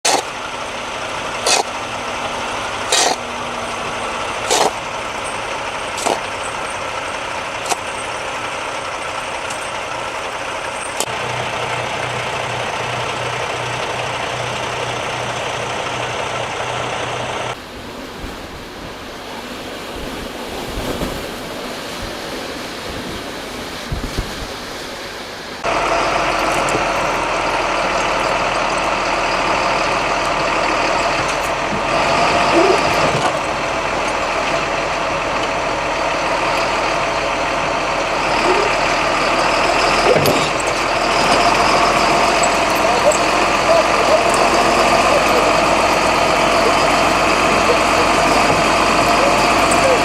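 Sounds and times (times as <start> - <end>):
vehicle engine throb: 0.0 - 17.8, 25.6 - 50.0.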